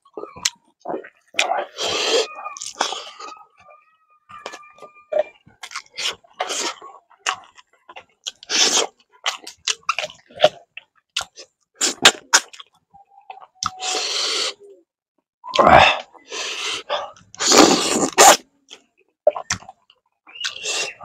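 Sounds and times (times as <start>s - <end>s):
person chewing and lip-smacking: 0.0s - 3.5s, 4.3s - 14.2s, 17.2s - 21.0s.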